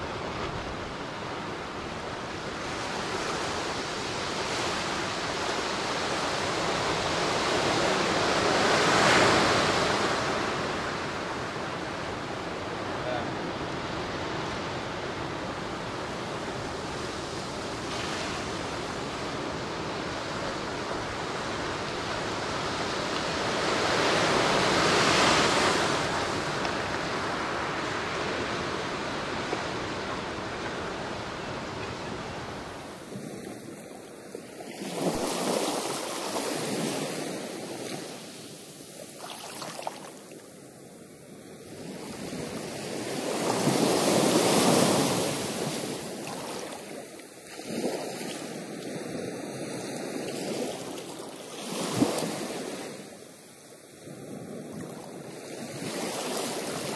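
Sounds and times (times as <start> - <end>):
ocean surf washing ashore: 0.0 - 56.9.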